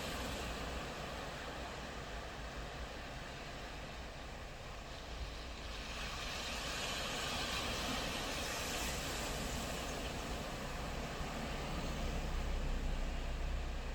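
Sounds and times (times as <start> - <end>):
ocean waves washing on beach: 0.0 - 13.9.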